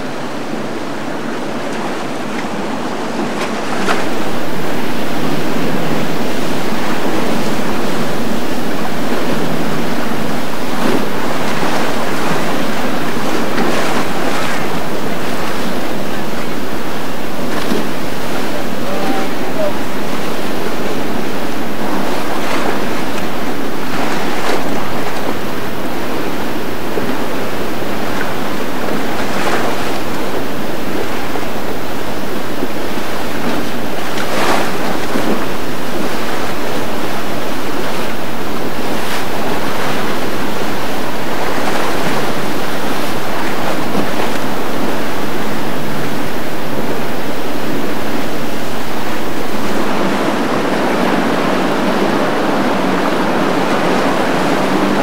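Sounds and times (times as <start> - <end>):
turbulent water current rushing: 0.0 - 55.0
water splashes: 0.0 - 55.0
wind buffeting microphone: 0.0 - 55.0.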